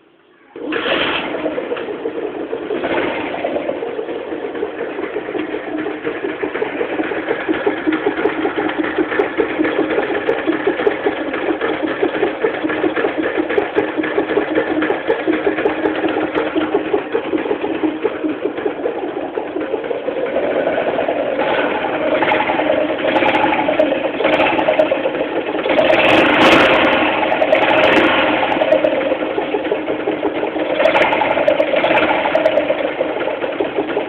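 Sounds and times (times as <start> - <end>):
engine knocking noise: 0.6 - 34.0
motorcycle engine idling: 1.3 - 34.0.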